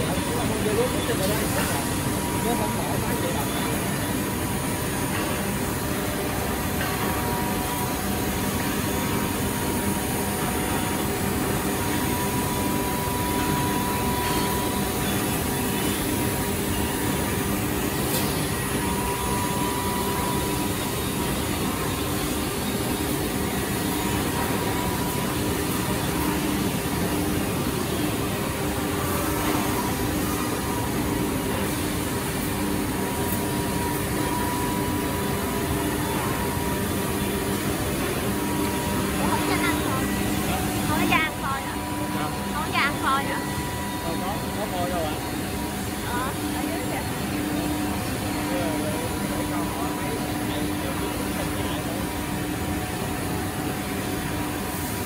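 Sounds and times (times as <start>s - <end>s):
cnc router droning: 0.0s - 55.0s.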